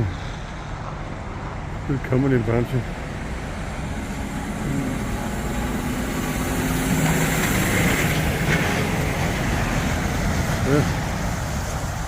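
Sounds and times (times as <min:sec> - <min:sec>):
truck diesel engine under load: 0:00.0 - 0:12.0.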